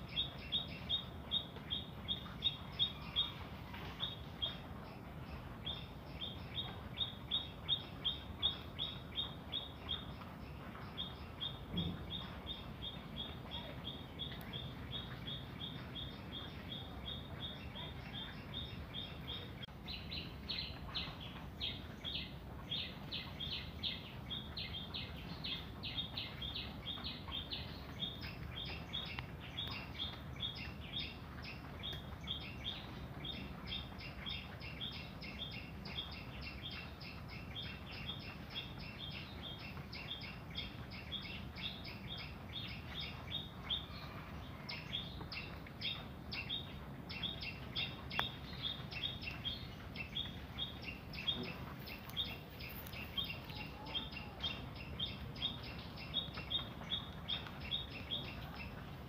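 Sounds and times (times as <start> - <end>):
small bird chirping: 0.0 - 59.0.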